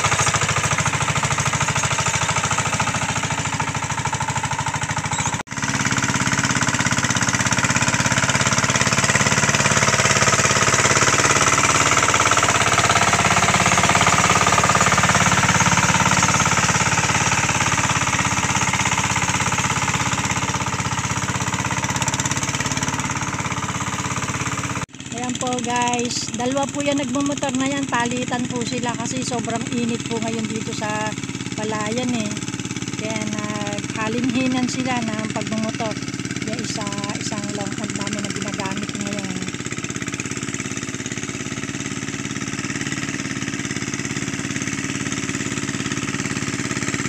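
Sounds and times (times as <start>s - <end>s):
diesel engine chugging: 0.0s - 47.0s.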